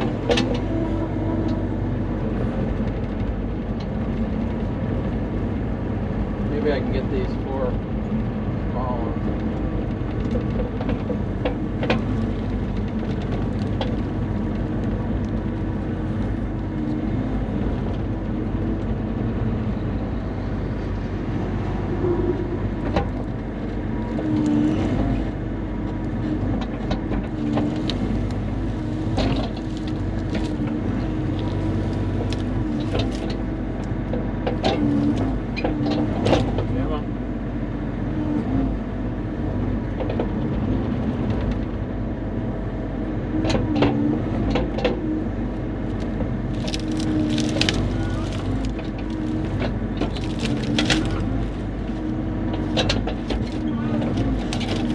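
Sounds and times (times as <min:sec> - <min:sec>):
excavator diesel engine humming: 0:00.0 - 0:54.9.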